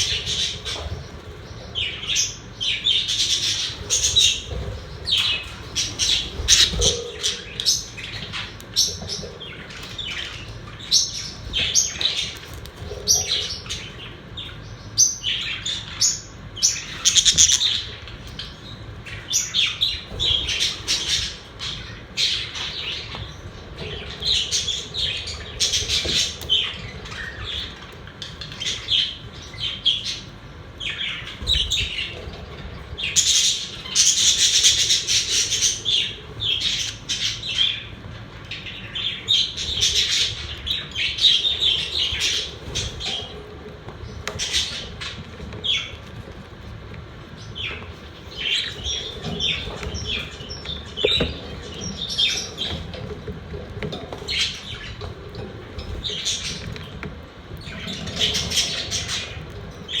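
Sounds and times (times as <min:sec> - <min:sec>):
budgerigars chirping and squawking: 0:00.0 - 1:00.0.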